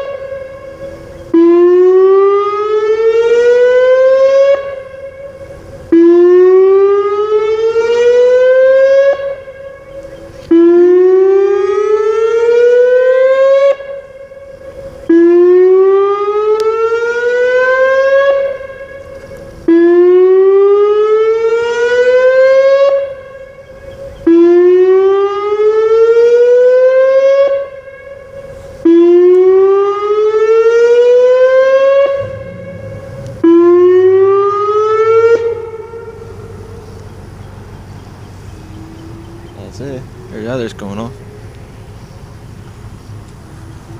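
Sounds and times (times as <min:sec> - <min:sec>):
rising warning siren: 0:00.0 - 0:43.9.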